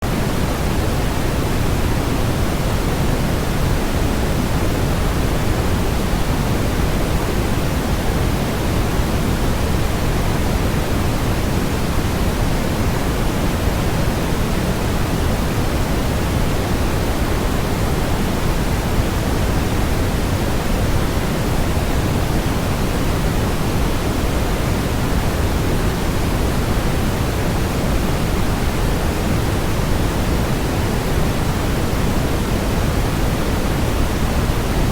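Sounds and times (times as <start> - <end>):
white noise hiss: 0.0 - 34.9.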